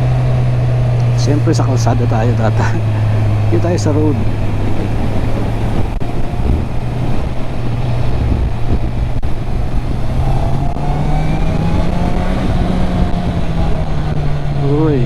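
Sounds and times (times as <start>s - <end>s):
motorcycle engine running: 0.0s - 15.0s
wind rush: 0.0s - 15.0s.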